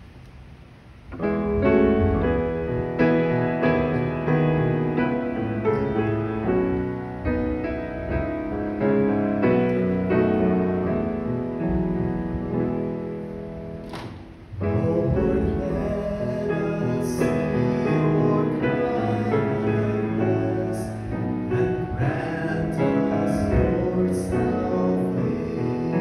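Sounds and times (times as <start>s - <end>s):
slow piano music: 1.1s - 26.0s.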